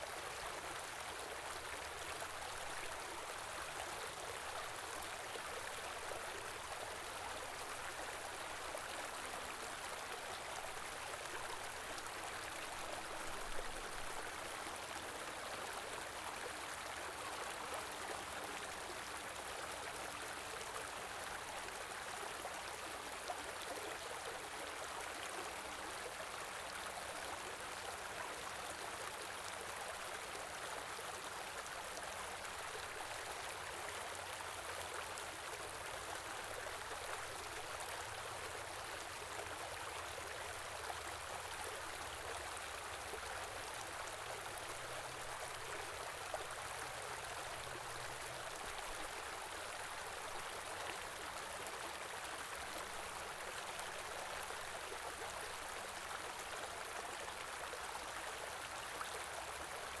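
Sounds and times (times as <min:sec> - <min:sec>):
stream water flowing: 0:00.0 - 1:00.0.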